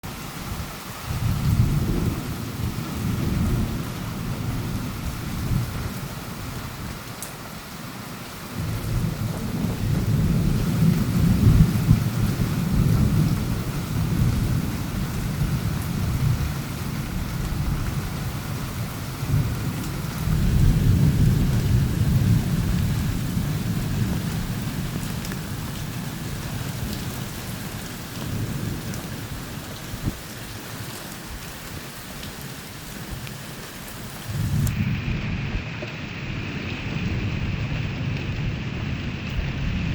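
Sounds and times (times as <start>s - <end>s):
steady rain: 0.0s - 39.9s
thunder rumbling: 0.1s - 7.2s, 8.3s - 30.7s, 33.0s - 39.9s.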